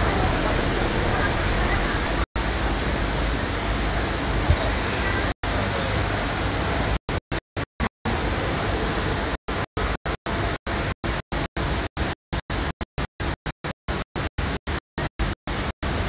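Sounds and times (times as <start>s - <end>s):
loud broadband noise hiss: 0.0s - 7.0s, 8.1s - 12.1s, 13.9s - 16.0s.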